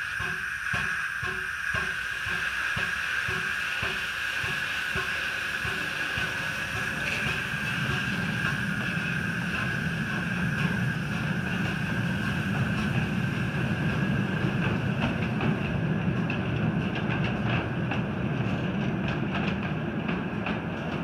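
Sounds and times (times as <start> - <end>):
steam hissing: 0.0 - 21.0
wheels clicking over rail joints: 0.0 - 21.0
wheels rumbling on track: 0.0 - 21.0.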